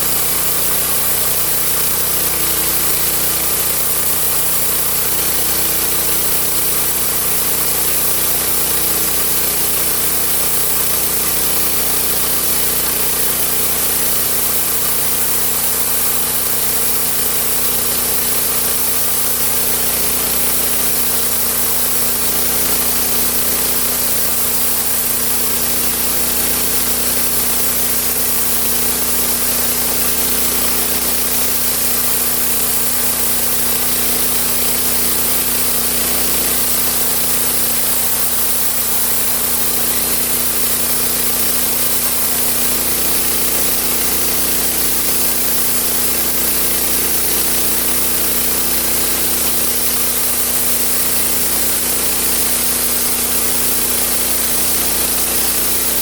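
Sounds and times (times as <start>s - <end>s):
sawmill engine hum with hiss: 0.0s - 56.0s.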